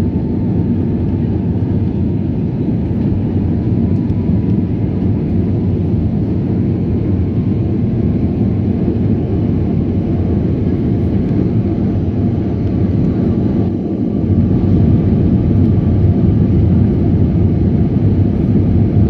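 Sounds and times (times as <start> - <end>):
jet engines and airflow rumble: 0.0 - 19.0.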